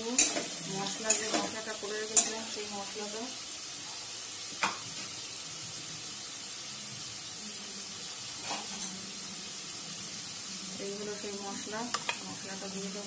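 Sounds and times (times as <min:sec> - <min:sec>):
carrot sizzling in hot oil: 0:00.0 - 0:13.0.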